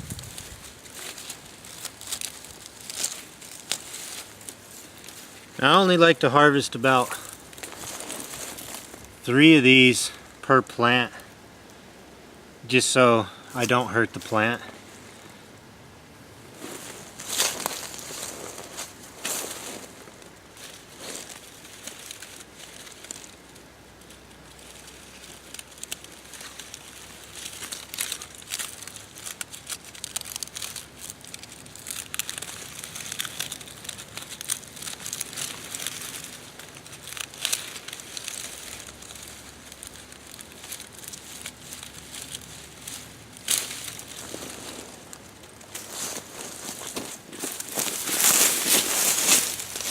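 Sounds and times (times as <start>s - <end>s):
stiff leaves crackling and scraping: 0.0s - 11.8s, 12.7s - 15.6s, 16.2s - 49.9s.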